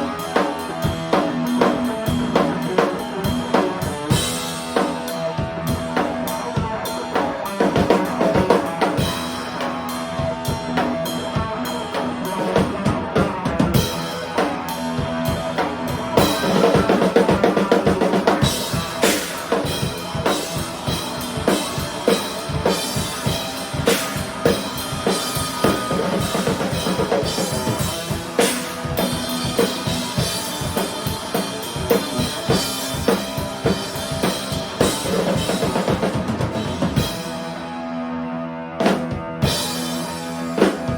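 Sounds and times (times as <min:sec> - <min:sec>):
drum kit played hard: 0:00.0 - 0:38.0, 0:38.8 - 0:40.9.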